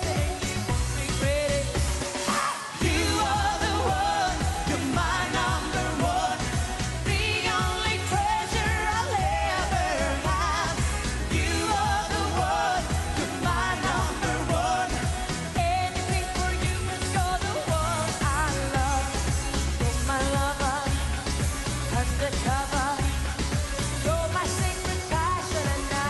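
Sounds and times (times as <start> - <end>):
dance-pop beat: 0.0 - 26.0
woman singing: 0.0 - 26.0.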